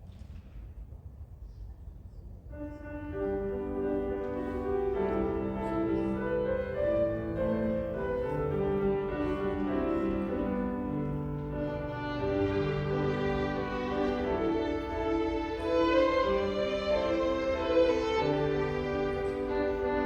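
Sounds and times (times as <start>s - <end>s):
violins and piano playing: 2.8s - 20.0s.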